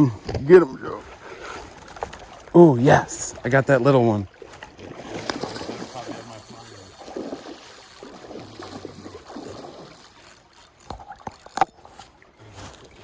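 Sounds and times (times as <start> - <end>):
stream water: 0.0 - 13.0.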